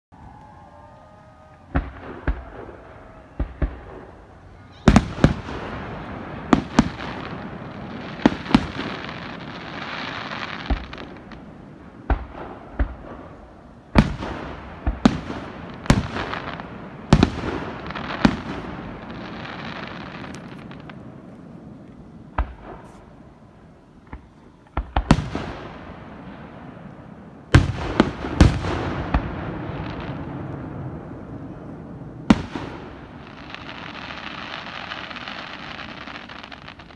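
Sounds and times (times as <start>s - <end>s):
fireworks bursting: 1.5s - 36.9s.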